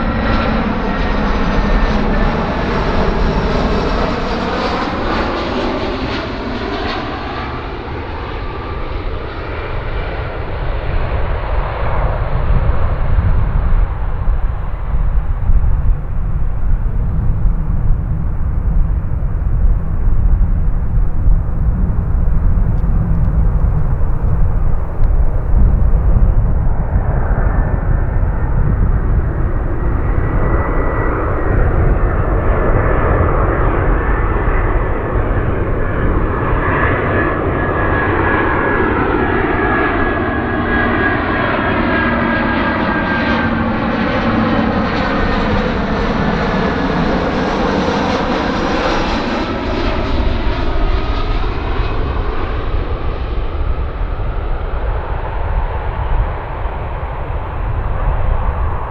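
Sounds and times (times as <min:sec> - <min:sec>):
jet airliner engines whining overhead: 0:00.0 - 0:58.9.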